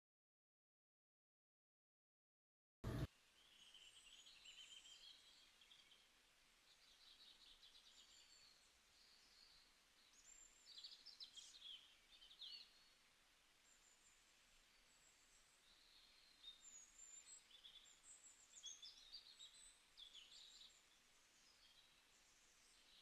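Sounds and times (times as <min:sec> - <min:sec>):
faint birdsong: 0:02.8 - 0:23.0
low background hiss: 0:02.8 - 0:23.0.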